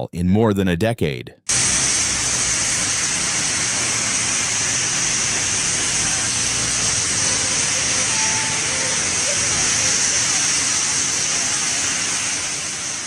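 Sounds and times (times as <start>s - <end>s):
steady rushing hiss: 1.5s - 13.0s.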